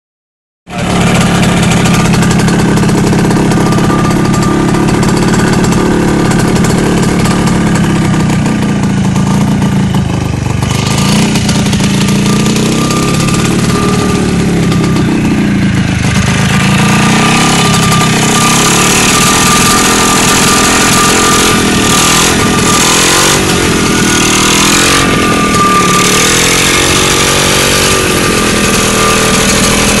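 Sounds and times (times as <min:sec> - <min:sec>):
small aircraft engine running: 0:00.7 - 0:30.0.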